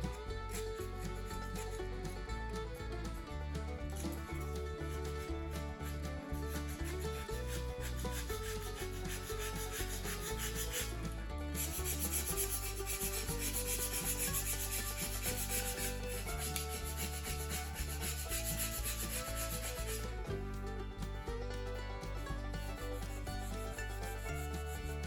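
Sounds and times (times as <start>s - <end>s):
background music with steady beat: 0.0s - 25.0s.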